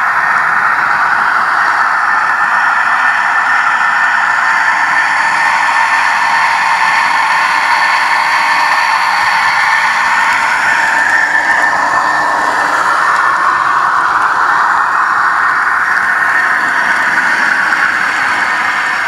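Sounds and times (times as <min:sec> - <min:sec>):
electric locomotive running noise: 0:00.0 - 0:19.0.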